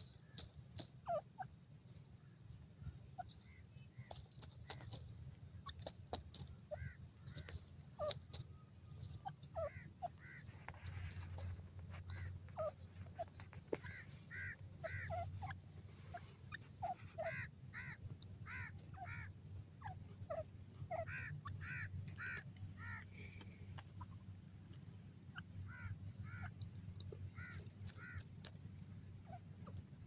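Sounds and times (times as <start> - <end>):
bird chirping calls: 0.0 - 30.0
low steady rumble: 0.0 - 30.0.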